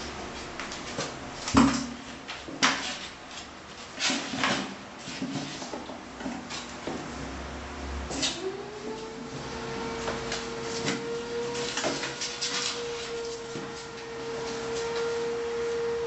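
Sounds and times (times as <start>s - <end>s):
kittens scuffling on tiled floor: 0.2s - 7.1s, 8.1s - 15.9s.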